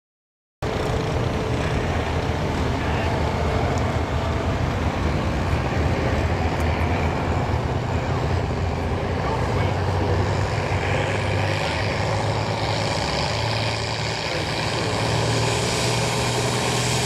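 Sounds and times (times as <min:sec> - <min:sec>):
tractor engine running loud: 0:00.6 - 0:17.0.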